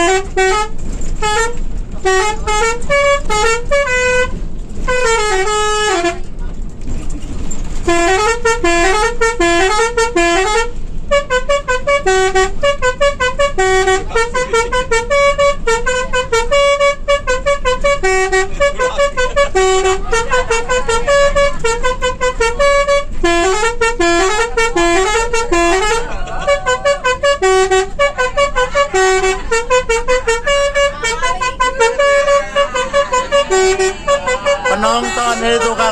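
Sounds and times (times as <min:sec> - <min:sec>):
bus musical horn melody: 0:00.0 - 0:06.4, 0:07.6 - 0:35.9.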